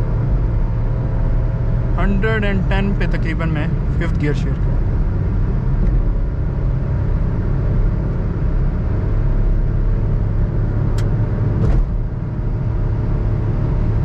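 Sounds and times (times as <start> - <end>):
car engine droning: 0.0 - 14.0
road and tyre noise: 0.0 - 14.0.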